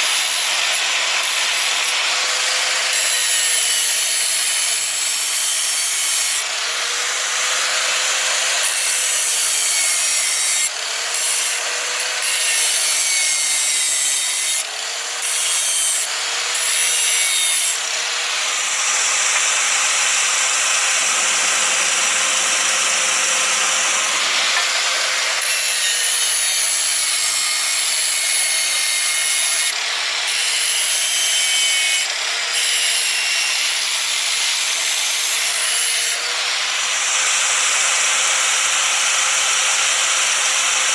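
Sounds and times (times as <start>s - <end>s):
electric grinder grinding metal: 0.0s - 40.9s.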